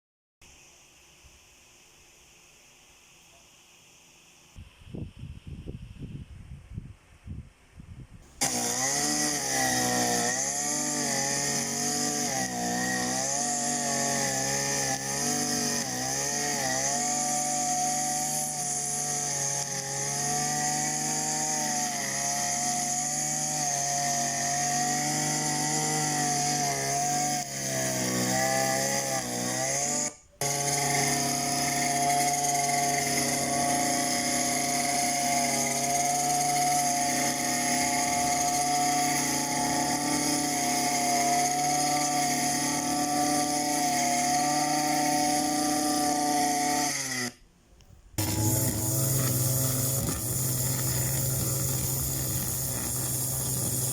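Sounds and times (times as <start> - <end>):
grass cutter engine buzzing: 8.3 - 47.4, 48.2 - 53.9.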